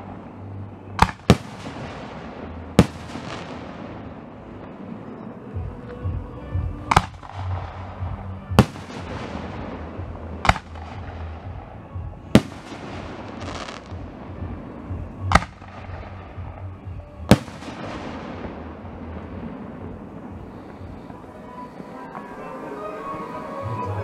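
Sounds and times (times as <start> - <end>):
rolling echo: 0.0 - 24.0.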